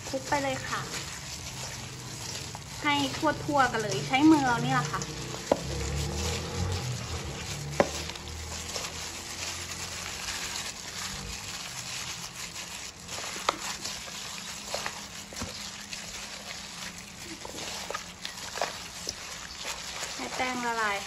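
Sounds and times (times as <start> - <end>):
hand squelching wet batter: 0.0 - 21.0.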